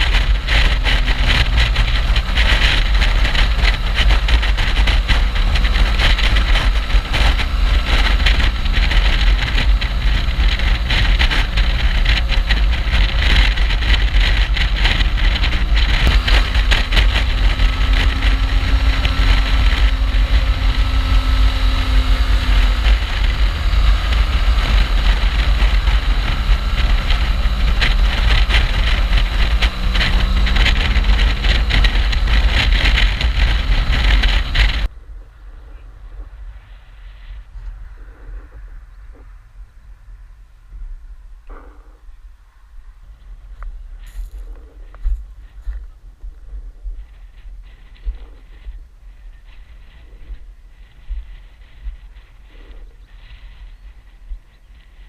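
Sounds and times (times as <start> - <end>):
motorcycle engine while riding: 0.0 - 39.6, 41.4 - 42.2, 43.1 - 55.0
wind noise on microphone: 0.0 - 55.0.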